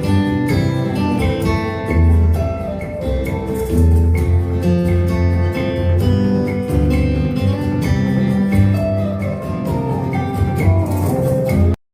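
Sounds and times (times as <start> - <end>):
plucked acoustic guitar music: 0.0 - 11.8
steady bass line: 0.0 - 11.8.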